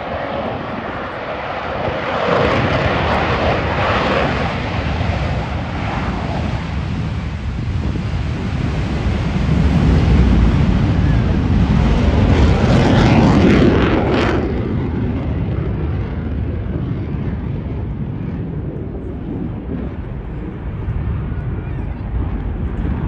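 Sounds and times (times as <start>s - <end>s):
jet roar flying past: 0.0s - 23.0s.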